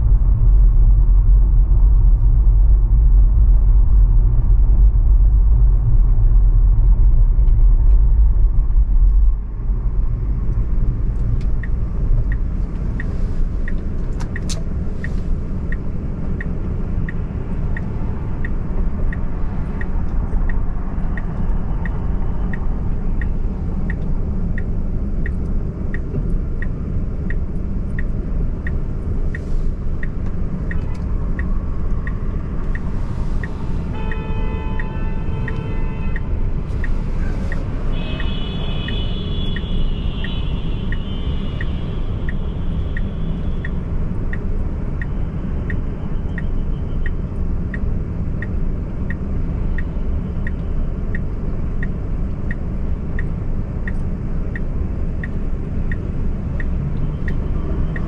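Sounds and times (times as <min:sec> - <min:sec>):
road and engine rumble: 0:00.0 - 0:58.0
turn signal ticking: 0:06.8 - 0:58.0.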